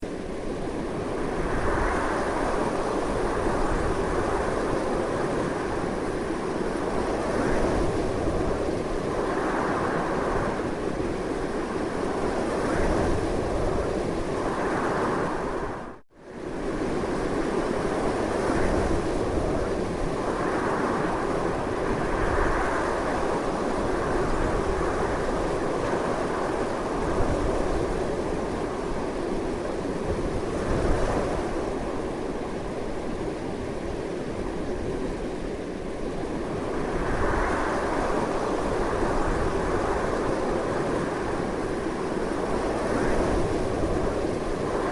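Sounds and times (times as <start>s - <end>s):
strong wind blowing: 0.0s - 44.9s.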